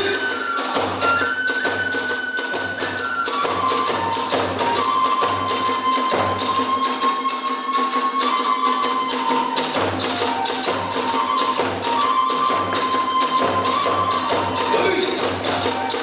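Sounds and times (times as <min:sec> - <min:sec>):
drums beating: 0:00.0 - 0:07.3, 0:09.0 - 0:16.0
bamboo flute long notes: 0:00.0 - 0:16.0.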